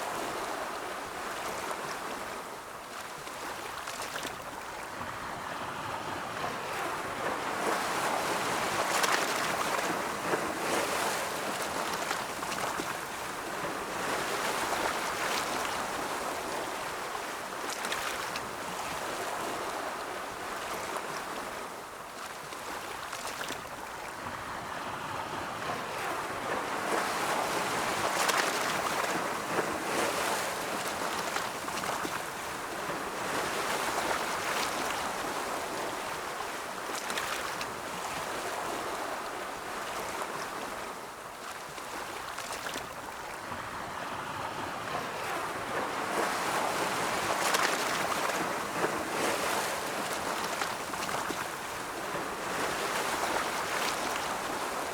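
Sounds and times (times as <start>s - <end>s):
ocean waves washing on shore: 0.0s - 54.9s.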